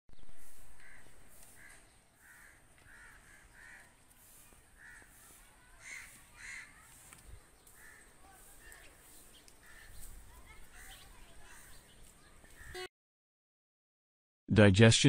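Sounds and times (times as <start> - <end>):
crows cawing: 0.4 - 12.8.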